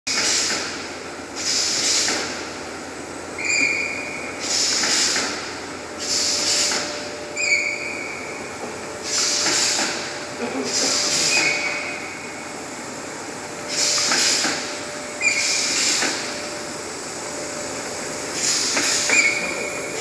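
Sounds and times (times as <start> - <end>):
compressed air hiss: 0.1 - 2.6, 3.4 - 7.1, 9.0 - 20.0.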